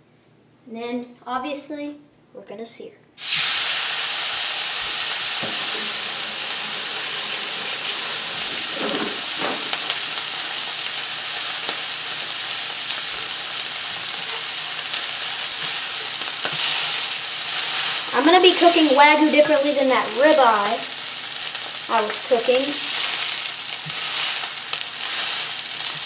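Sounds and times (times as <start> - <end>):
steak sizzling in a pan: 3.2 - 26.0
stirring in a pan: 3.2 - 26.0.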